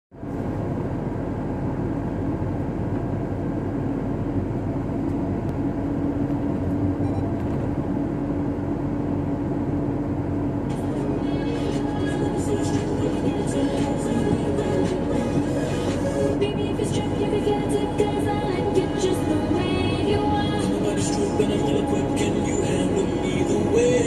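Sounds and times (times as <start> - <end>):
vehicle road and engine noise: 0.1 - 24.0
low drone: 4.2 - 24.0.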